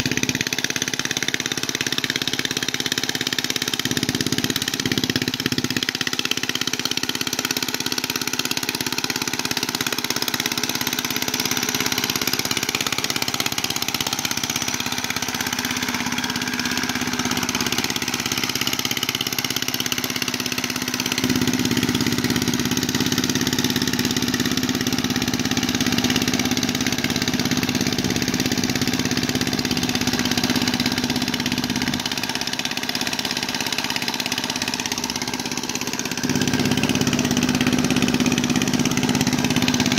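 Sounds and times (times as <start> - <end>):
hand tractor engine running: 0.0 - 39.9.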